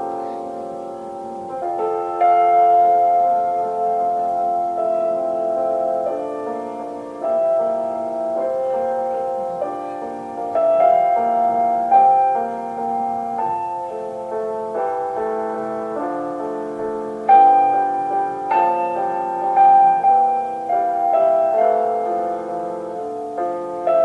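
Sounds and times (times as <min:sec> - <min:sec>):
slow solo piano melody: 0:00.0 - 0:24.0.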